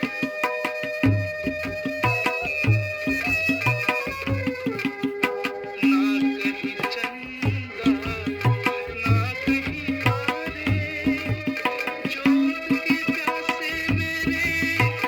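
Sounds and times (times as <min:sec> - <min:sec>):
tabla playing steady rhythm: 0:00.0 - 0:15.0.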